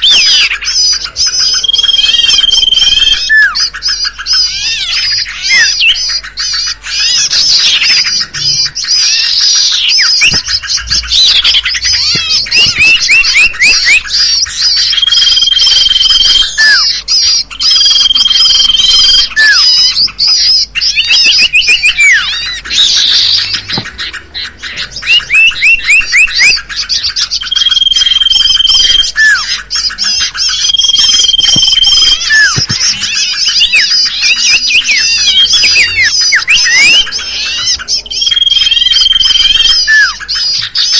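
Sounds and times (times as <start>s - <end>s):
small birds chattering and calling: 0.0s - 40.9s.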